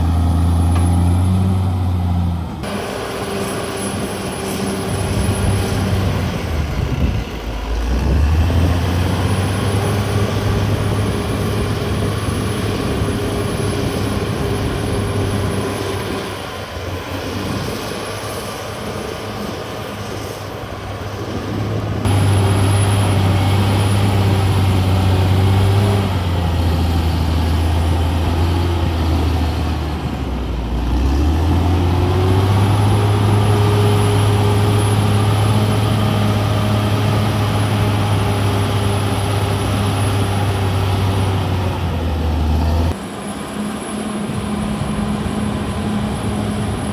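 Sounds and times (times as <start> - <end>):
bulldozer diesel engine working: 0.0 - 46.9.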